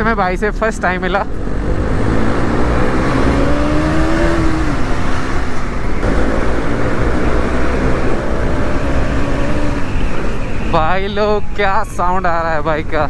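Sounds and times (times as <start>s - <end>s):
motorcycle engines: 0.0s - 13.0s.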